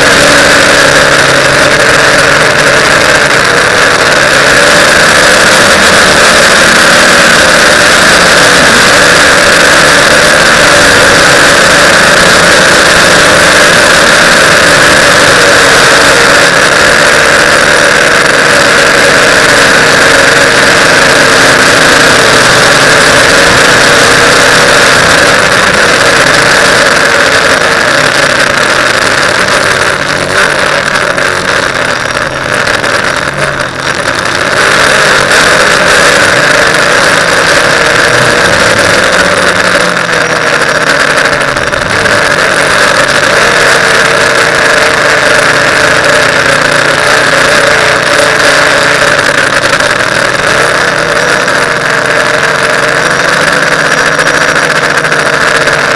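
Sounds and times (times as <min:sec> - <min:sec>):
drone propellers whining: 0:00.0 - 0:55.9.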